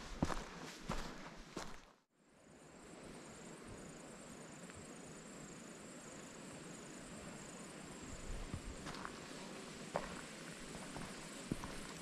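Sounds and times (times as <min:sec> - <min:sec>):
soft steady hiss: 0:02.2 - 0:12.0
high thin insect chirp: 0:02.4 - 0:12.0.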